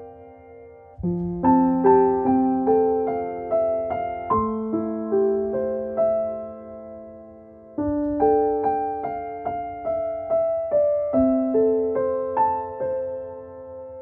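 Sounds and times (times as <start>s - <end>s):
soft slow piano music: 0.0s - 14.0s.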